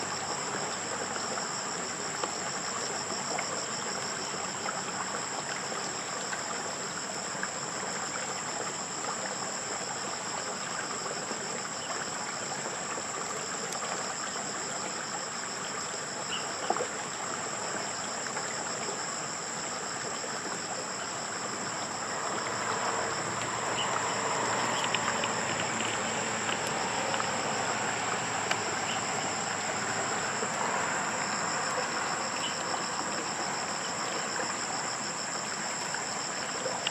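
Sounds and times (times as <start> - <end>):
insects trilling: 0.0 - 36.9.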